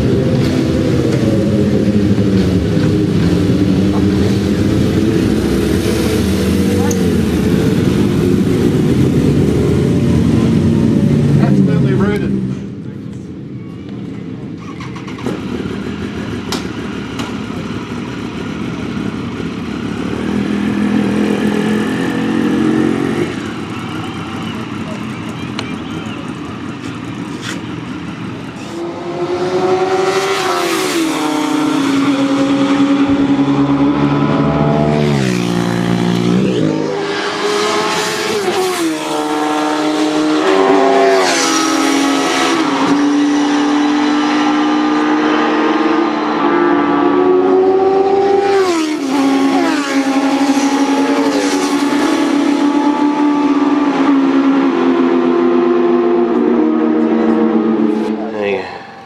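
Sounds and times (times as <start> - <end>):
motorcycle engines accelerating: 0.0 - 59.0.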